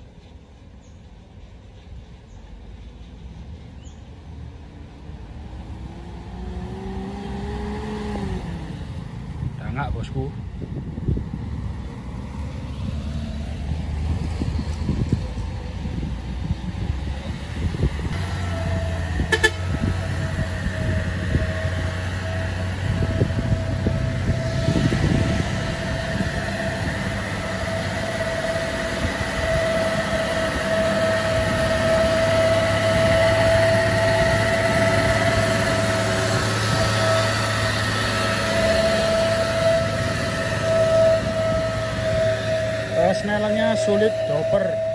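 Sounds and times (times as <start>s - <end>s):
dump truck engine droning: 3.4s - 44.9s.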